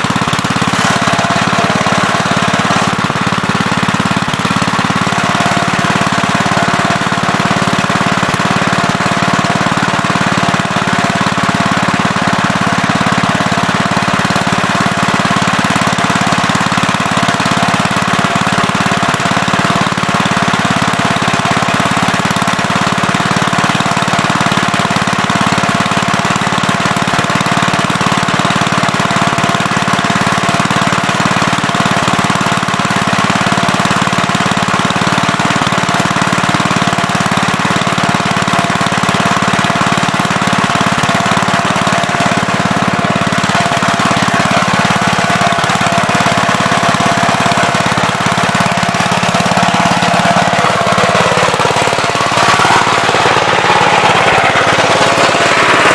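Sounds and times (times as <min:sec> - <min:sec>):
backhoe engine running: 0:00.0 - 0:55.9.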